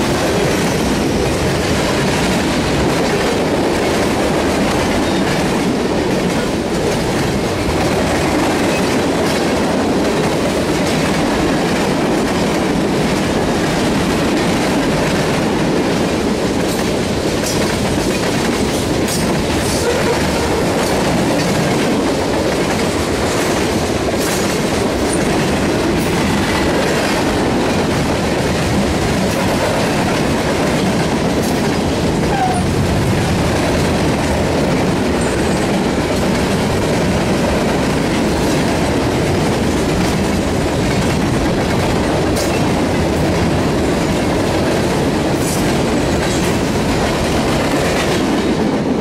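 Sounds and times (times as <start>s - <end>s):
freight train rumbling past: 0.0s - 49.0s
train wheels clicking: 0.0s - 49.0s.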